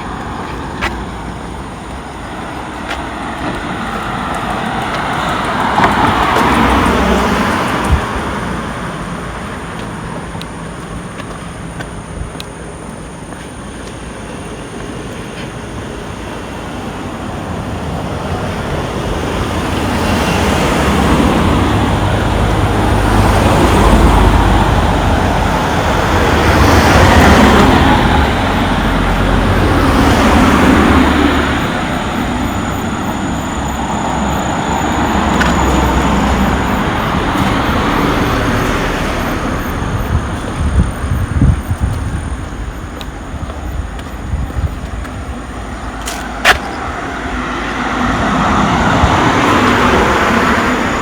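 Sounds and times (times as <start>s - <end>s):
vehicles passing: 0.0s - 51.0s.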